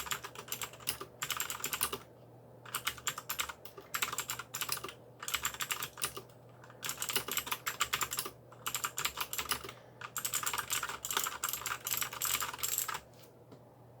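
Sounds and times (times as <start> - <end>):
mechanical keyboard typing: 0.0 - 2.0, 2.7 - 13.1.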